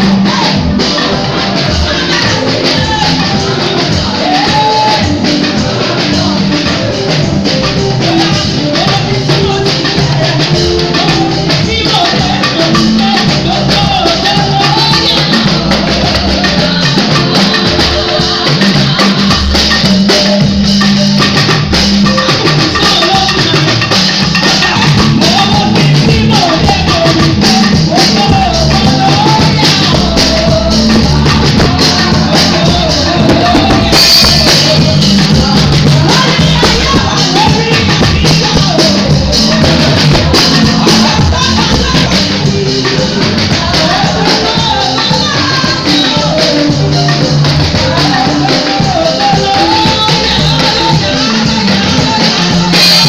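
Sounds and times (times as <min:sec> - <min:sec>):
drums: 0:00.0 - 0:53.0
live gospel band music: 0:00.0 - 0:53.0
shaker percussion: 0:00.0 - 0:53.0.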